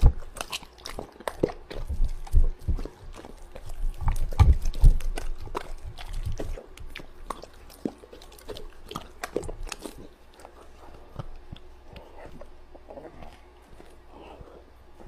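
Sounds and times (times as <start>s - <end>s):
dog chewing with crunching clicks: 0.0s - 15.0s.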